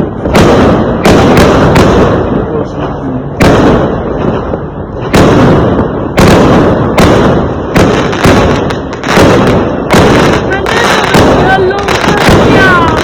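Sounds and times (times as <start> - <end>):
fireworks exploding with echo: 0.0 - 13.0.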